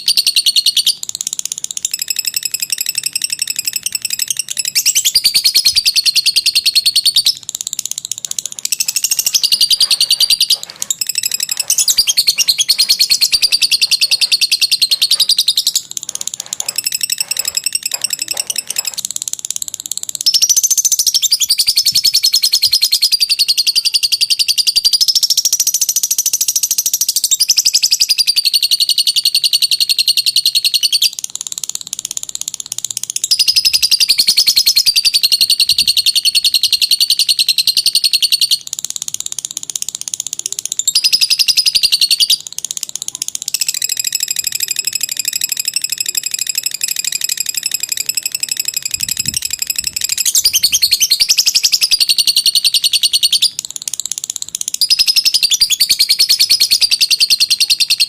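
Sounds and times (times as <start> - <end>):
lovebird chattering trill: 0.0 - 58.0.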